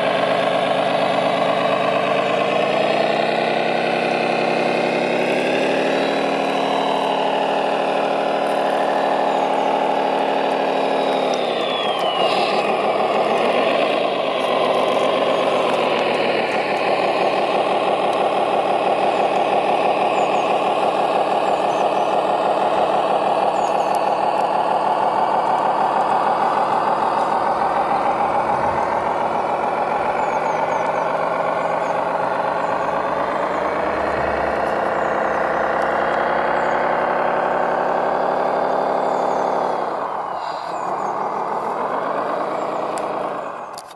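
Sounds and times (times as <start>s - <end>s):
toy truck motor drone: 0.0s - 43.9s.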